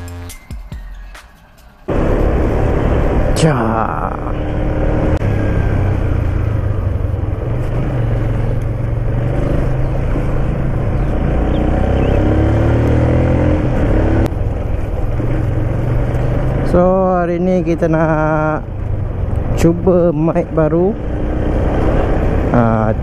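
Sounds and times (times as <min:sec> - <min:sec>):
vehicle engine running: 0:01.9 - 0:23.0.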